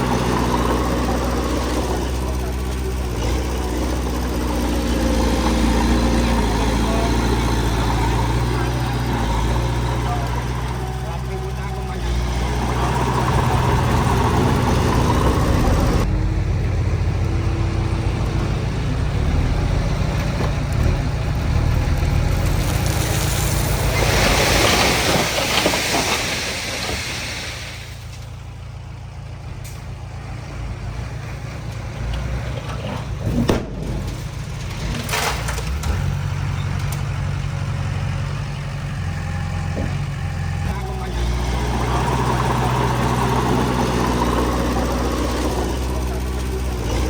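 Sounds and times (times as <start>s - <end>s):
heavy machinery rumbling: 0.0s - 47.0s.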